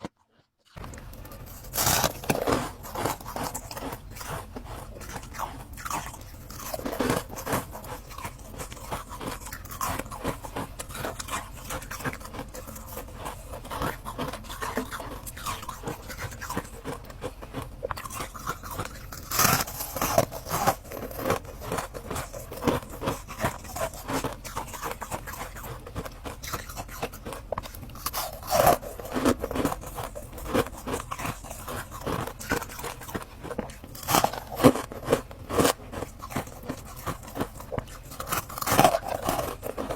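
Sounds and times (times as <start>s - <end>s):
ice being crunched by teeth: 0.7s - 39.9s.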